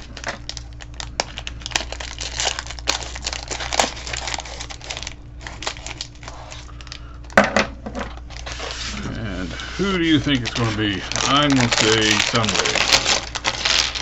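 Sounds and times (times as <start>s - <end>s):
packaging crinkling and rustling: 0.0s - 7.4s, 8.0s - 14.0s
faint steady hum: 0.0s - 14.0s.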